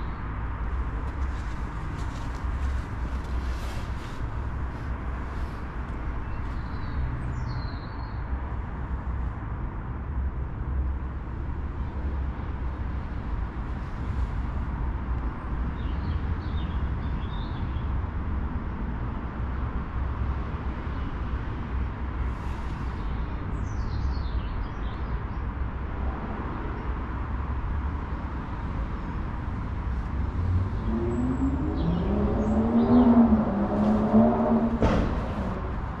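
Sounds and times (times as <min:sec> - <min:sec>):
low trackside rumble: 0:00.0 - 0:36.0.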